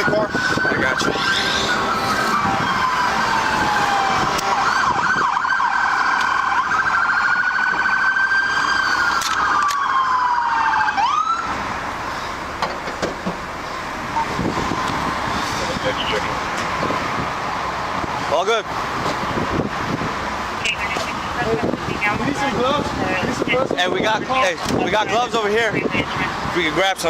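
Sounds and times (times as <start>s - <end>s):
emergency siren wailing: 0.0s - 12.6s, 13.5s - 26.7s.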